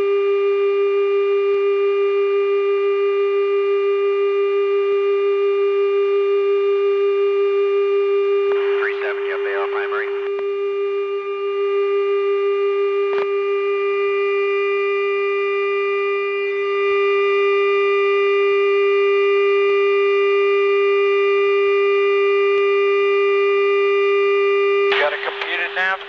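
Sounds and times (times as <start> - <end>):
electrical hum with whine: 0.0 - 26.0.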